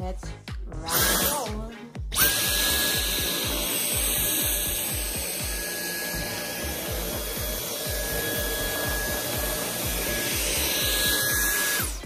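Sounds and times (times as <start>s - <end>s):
background music with beat: 0.0s - 12.0s
vacuum cleaner running: 0.9s - 1.5s, 2.1s - 12.0s.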